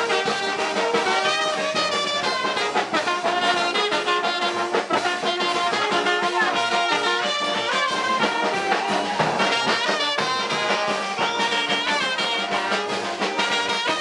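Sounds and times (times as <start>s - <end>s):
steady drum beat: 0.0s - 14.0s
trombone melody: 0.0s - 14.0s
trumpet melody: 0.0s - 14.0s.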